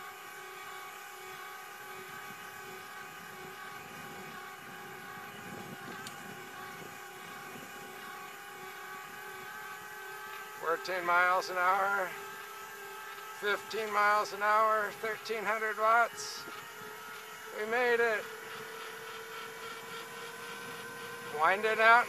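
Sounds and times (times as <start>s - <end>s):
electric bicycle motor whining: 0.0s - 22.0s.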